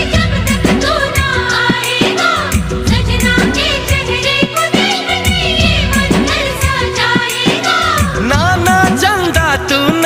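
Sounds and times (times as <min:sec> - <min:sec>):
film song with singing: 0:00.0 - 0:10.0
steady percussion beat: 0:00.0 - 0:10.0.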